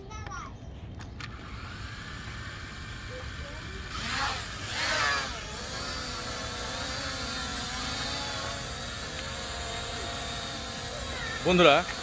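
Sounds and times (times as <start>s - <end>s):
drone propellers whining: 1.0s - 12.0s.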